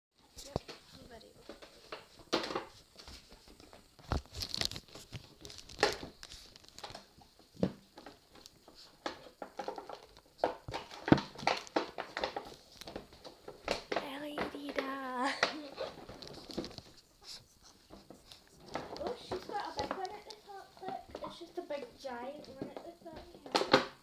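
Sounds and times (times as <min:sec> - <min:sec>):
packaging crinkling and rustling: 0:01.5 - 0:17.0, 0:17.9 - 0:24.0.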